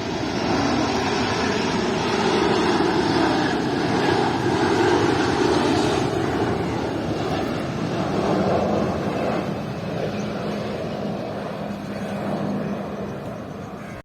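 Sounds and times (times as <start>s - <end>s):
airliner flying past: 0.0s - 14.0s.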